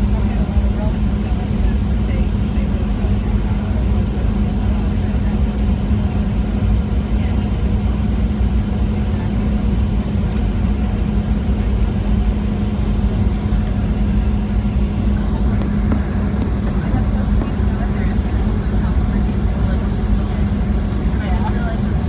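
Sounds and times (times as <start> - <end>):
airliner cabin engine rumble: 0.0 - 22.0
constant hum: 0.0 - 22.0.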